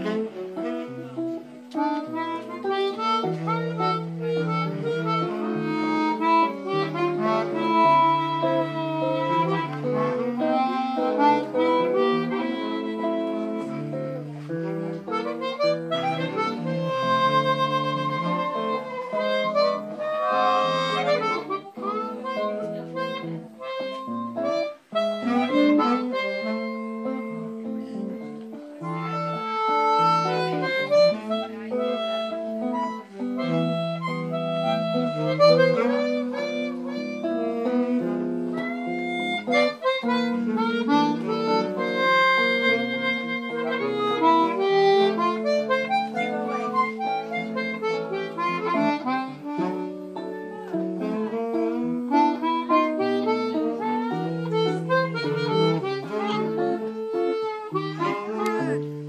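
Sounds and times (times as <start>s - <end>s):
electric guitar chords: 0.0s - 59.0s
harmonica melody: 0.0s - 59.0s.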